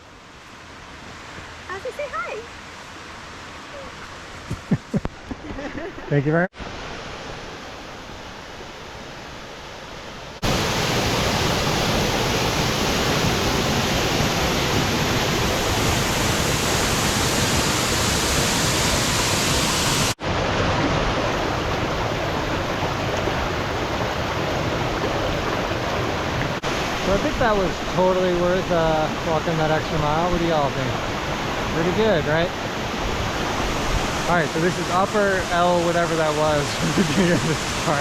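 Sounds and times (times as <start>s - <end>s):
waterfall roaring: 5.9s - 38.0s.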